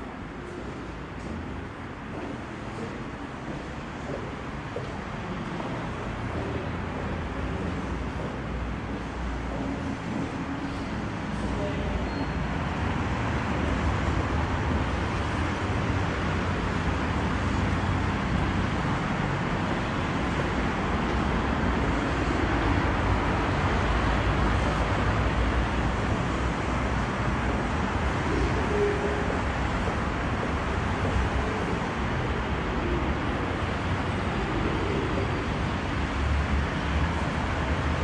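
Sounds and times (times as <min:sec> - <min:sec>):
low rumbling noise with hiss: 0:00.0 - 0:38.0.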